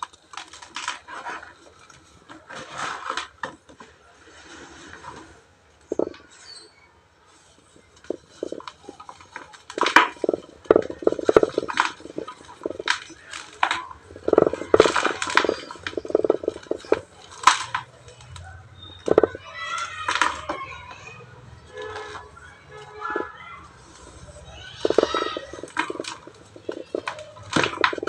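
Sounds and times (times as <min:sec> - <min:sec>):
cement chunks crunching and crumbling: 0:00.0 - 0:06.6, 0:07.4 - 0:20.9, 0:23.9 - 0:28.0.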